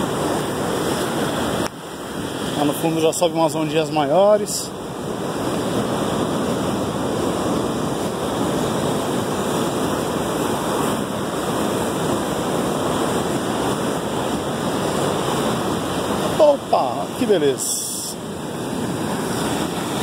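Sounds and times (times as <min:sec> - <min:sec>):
ocean surf breaking on rocks: 0:00.0 - 0:20.0.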